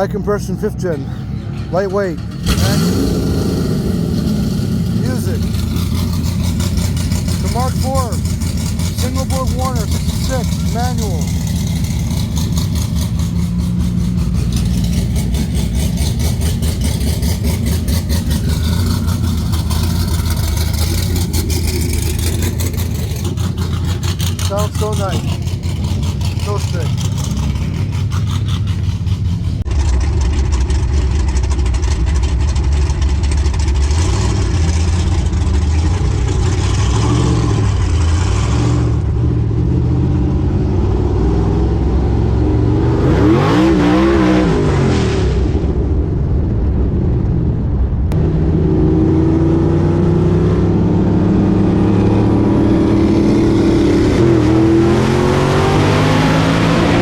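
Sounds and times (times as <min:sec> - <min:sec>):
car engines accelerating: 0:00.0 - 0:57.0.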